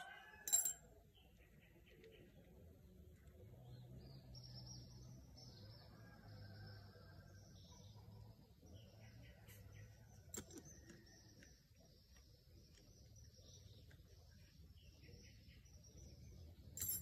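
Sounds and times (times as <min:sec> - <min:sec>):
faint bird chirping: 0:00.1 - 0:17.0.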